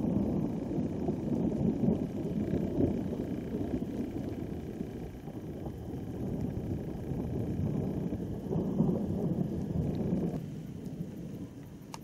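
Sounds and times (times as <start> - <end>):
distant thunder rumbling: 0.0 - 12.0.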